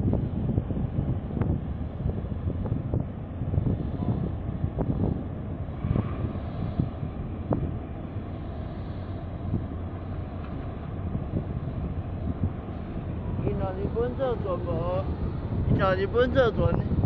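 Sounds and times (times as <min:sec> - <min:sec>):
ship engine rumble: 0:00.0 - 0:17.0
wind buffeting microphone: 0:00.0 - 0:17.0.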